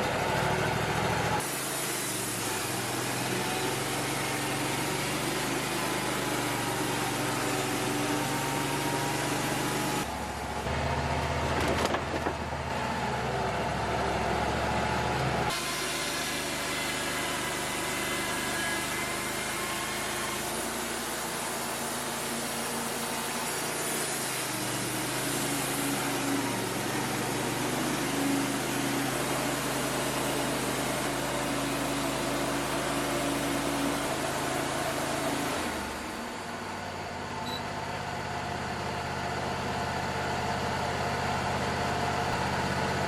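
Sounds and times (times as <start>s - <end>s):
sawmill engine and band saw: 0.0s - 43.0s.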